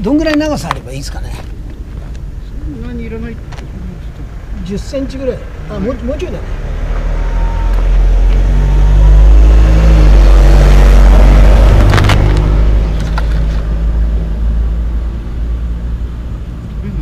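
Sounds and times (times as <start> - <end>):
vehicle engine rumble passing: 1.0 - 17.0.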